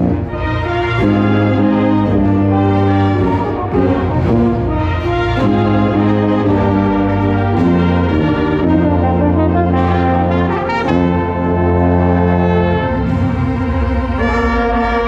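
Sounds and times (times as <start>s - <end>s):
wind band brass chords: 0.0s - 15.0s.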